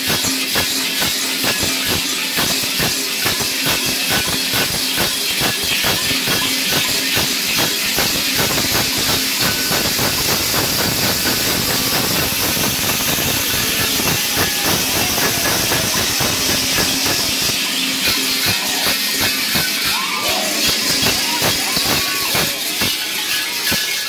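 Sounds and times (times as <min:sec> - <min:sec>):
large bells clanging: 0:00.0 - 0:24.0.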